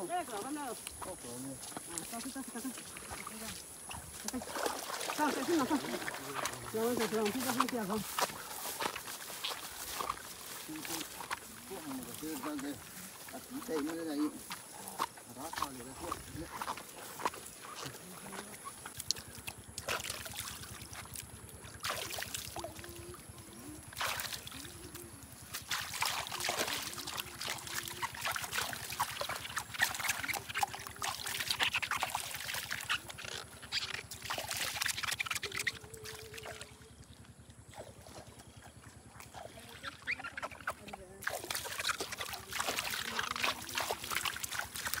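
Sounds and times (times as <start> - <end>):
water splashing and sloshing: 0.0 - 45.0.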